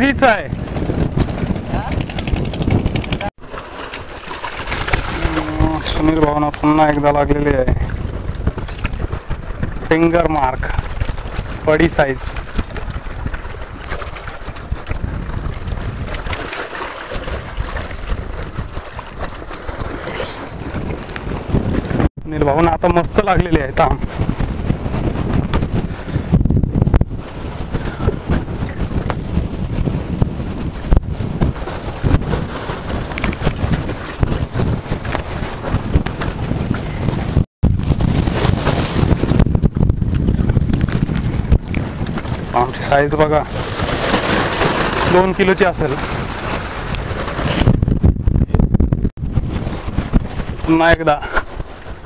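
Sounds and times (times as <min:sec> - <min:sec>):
sea washing against rocks: 0:00.0 - 0:48.4, 0:49.1 - 0:52.0
wind buffeting microphone: 0:00.0 - 0:52.0.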